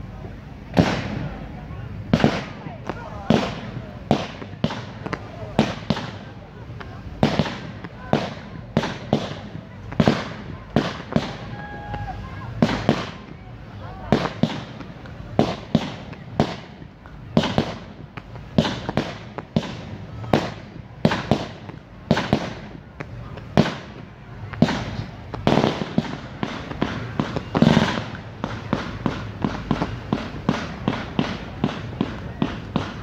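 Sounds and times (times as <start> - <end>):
fireworks pops and cracks: 0.7 - 33.0.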